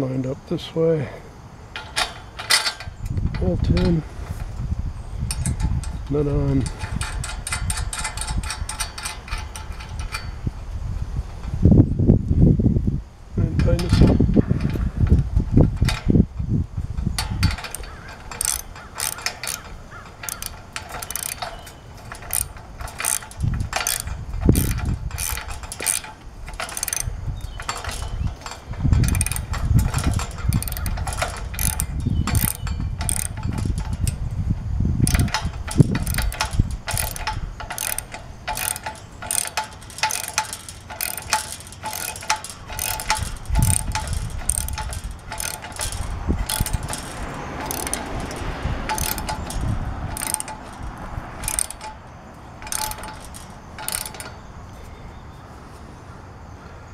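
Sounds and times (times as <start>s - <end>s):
ratchet wrench clicking: 1.7s - 12.0s, 13.4s - 54.8s.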